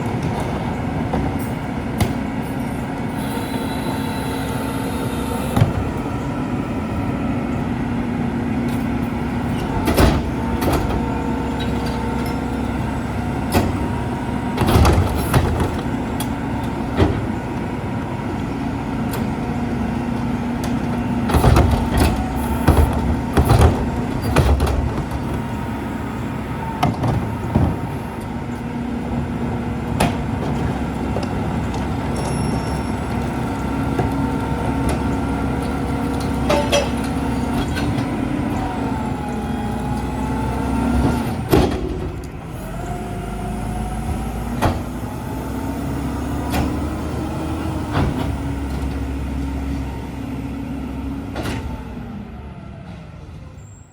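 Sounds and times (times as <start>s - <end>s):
garbage truck engine drone: 0.0s - 53.9s.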